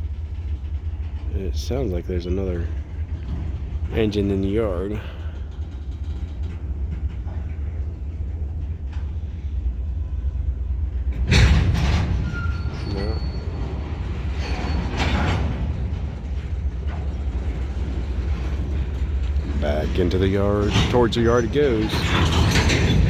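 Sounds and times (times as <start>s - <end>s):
freight train rumbling: 0.0s - 23.0s
loud train clanks: 0.0s - 23.0s.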